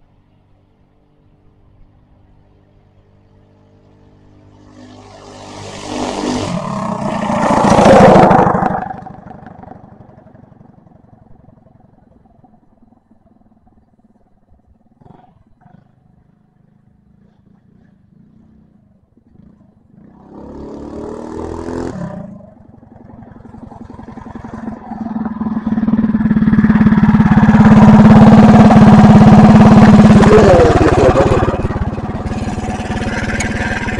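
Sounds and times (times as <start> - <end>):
minibike engine at full throttle: 0.0 - 33.9.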